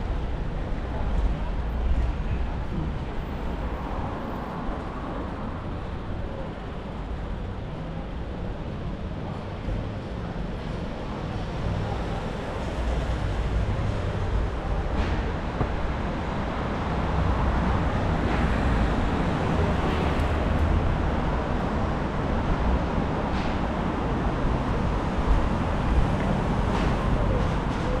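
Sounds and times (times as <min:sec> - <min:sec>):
cars passing with low rumble: 0:00.0 - 0:28.0.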